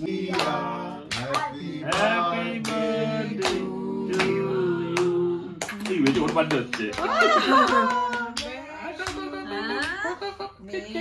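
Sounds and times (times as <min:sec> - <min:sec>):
group singing a celebration song: 0:00.0 - 0:10.0
hand claps: 0:00.3 - 0:04.4, 0:05.0 - 0:10.1.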